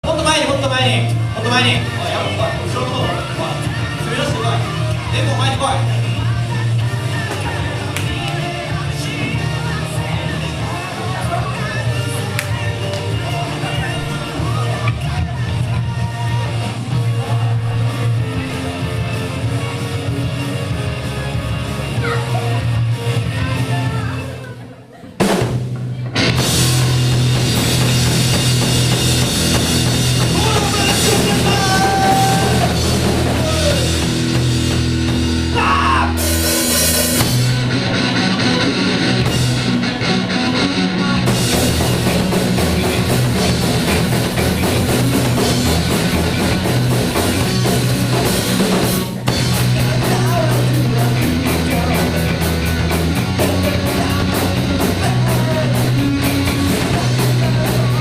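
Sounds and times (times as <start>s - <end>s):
pounding drum kit: 0.0s - 24.2s, 25.1s - 58.0s
rock band playing loudly: 0.0s - 58.0s.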